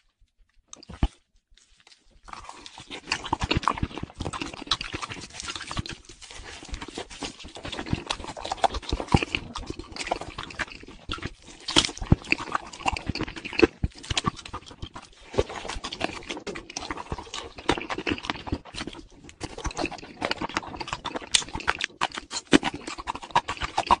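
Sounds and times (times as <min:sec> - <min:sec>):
chewing and lip-smacking: 0:00.5 - 0:24.0.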